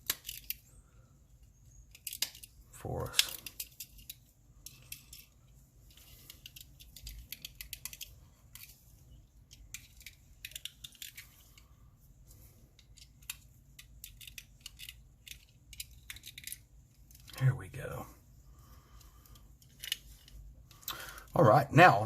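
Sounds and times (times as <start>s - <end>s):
faint clicks and scraping of toy car: 0.0s - 17.5s, 18.7s - 21.4s.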